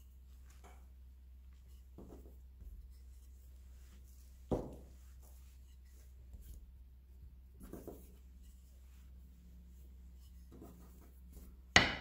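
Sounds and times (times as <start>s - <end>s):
hands patting dough: 0.0s - 12.0s.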